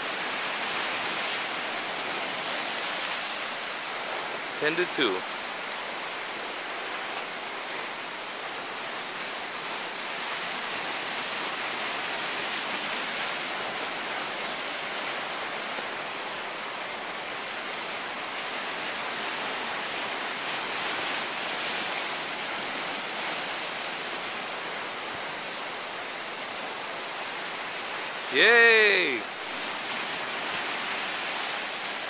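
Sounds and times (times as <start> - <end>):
ocean surf breaking on rocks: 0.0 - 32.0.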